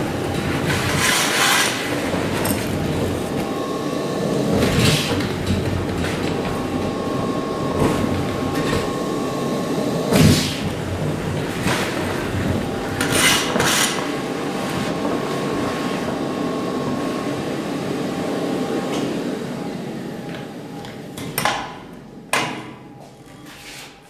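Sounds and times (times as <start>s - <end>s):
industrial vacuum cleaner humming: 0.0s - 22.3s.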